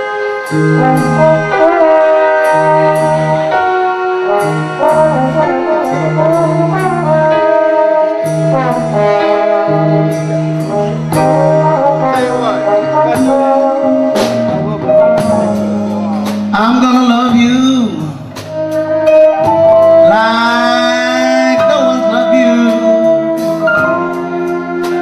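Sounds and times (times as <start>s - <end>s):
brass chords: 0.0s - 25.0s
walking bass line: 0.0s - 25.0s.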